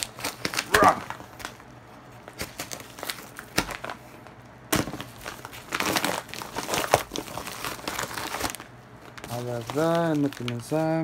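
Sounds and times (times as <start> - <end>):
padded mailer crinkling: 0.0 - 11.0.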